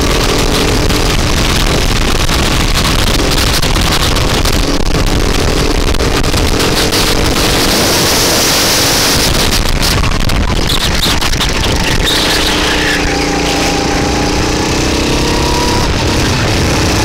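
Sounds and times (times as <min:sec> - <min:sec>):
go-kart engine running: 0:00.0 - 0:17.0
wind noise on microphone: 0:00.0 - 0:17.0.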